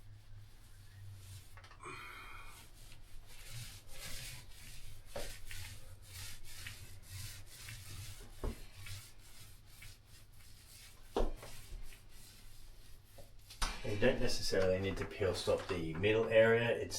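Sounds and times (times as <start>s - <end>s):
paintbrush bristles rubbing: 0.0s - 16.9s.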